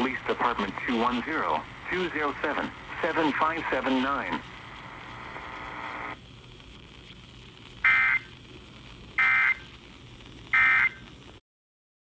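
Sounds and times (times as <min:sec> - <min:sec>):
faint radio hiss: 0:00.0 - 0:11.4.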